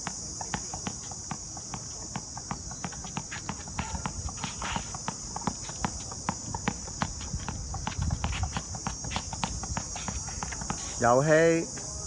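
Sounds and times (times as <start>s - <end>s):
tennis ball bouncing and tapping: 0.0s - 11.9s
high insect buzz: 0.0s - 12.0s
shoe steps on court: 0.0s - 12.0s.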